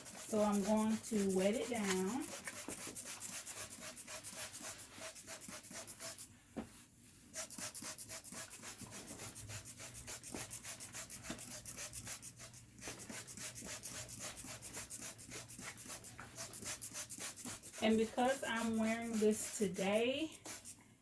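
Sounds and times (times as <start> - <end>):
scratchy strokes on wet hair: 0.0 - 6.2, 7.4 - 20.8.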